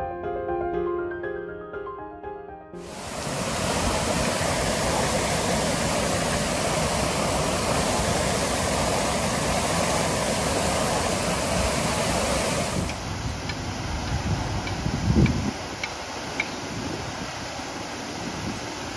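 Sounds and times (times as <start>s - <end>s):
water gushing from hydrant: 2.8s - 18.9s.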